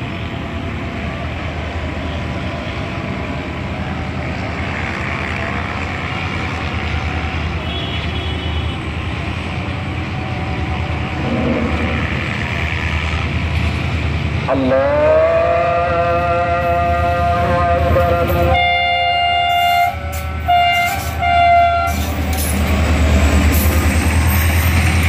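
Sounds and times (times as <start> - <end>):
locomotive low drone: 0.0 - 7.9, 8.8 - 25.0
road traffic: 0.0 - 25.0.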